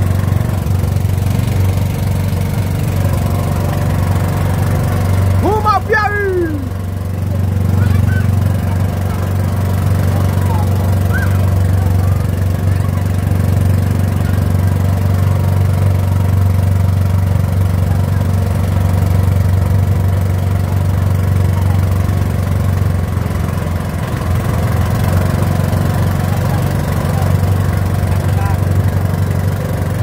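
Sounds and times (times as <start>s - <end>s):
boat motor low drone: 0.0s - 30.0s.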